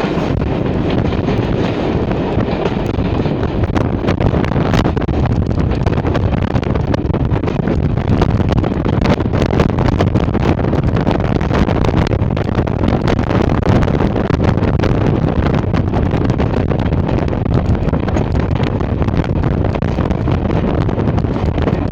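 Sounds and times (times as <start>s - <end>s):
train wheels rumbling and rattling: 0.0s - 21.9s
wind buffeting microphone: 0.0s - 21.9s.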